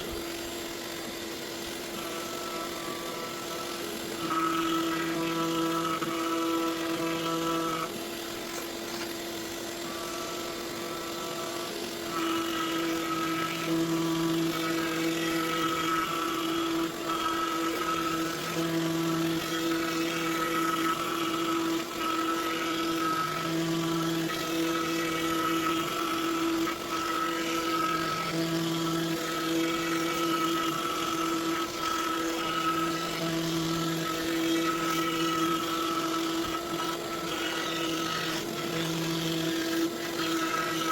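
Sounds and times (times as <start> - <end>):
router spindle cutting wood: 0.0 - 40.9.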